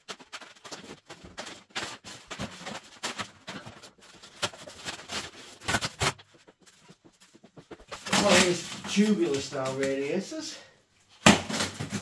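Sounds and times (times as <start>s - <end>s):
rustling and scraping of objects: 0.0s - 12.0s.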